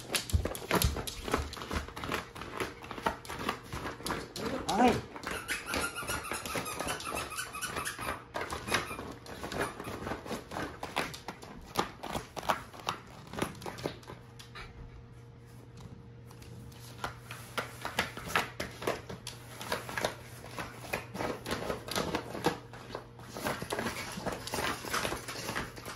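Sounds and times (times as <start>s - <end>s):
dog chewing plastic packaging: 0.0s - 14.6s, 15.6s - 25.9s.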